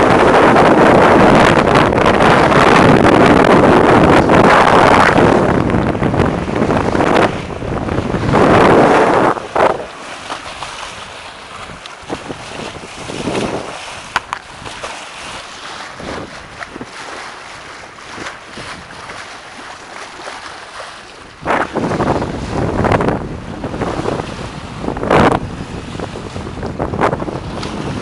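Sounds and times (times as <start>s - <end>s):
water splashing along hull: 0.0s - 28.0s
wind buffeting microphone: 0.0s - 28.0s.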